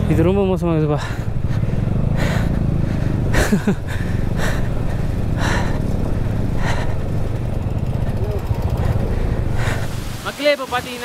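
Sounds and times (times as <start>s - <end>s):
motorcycle engine at low speed: 0.0s - 10.2s
rider breathing hard: 0.9s - 10.2s.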